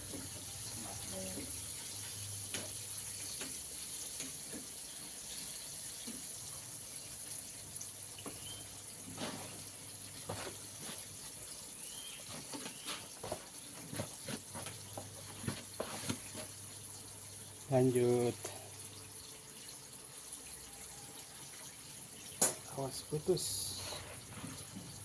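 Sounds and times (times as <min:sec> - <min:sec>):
hot oil sizzling: 0:00.0 - 0:25.0.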